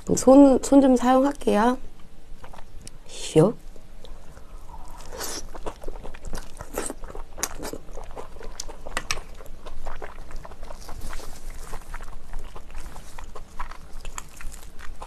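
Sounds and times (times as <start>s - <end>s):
biting and chewing mouth sounds: 1.9s - 3.0s, 3.7s - 15.0s.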